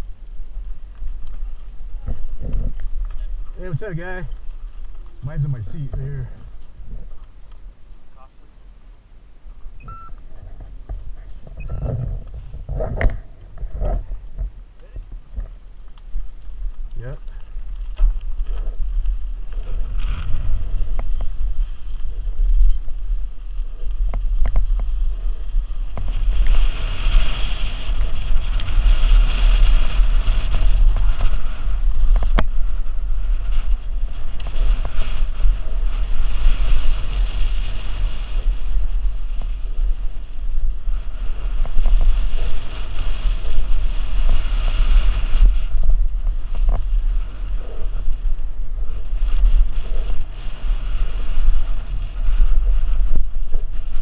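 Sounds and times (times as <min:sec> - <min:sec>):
bike tyres rumbling on gravel: 0:00.0 - 0:08.2, 0:08.9 - 0:54.0
wind buffeting microphone: 0:00.0 - 0:08.3, 0:09.3 - 0:54.0.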